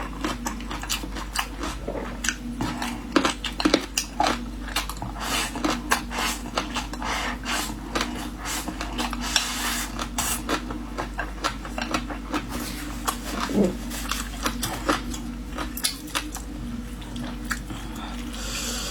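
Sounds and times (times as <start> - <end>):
chewing noodles and rice: 0.0 - 18.9.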